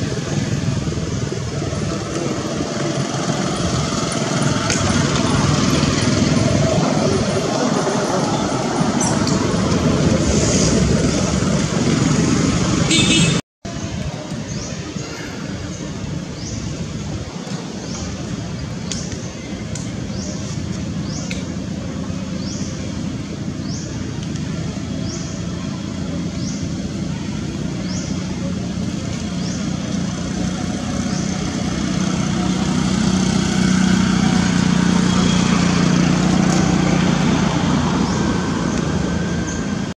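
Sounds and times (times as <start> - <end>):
traffic drone: 0.0 - 40.0.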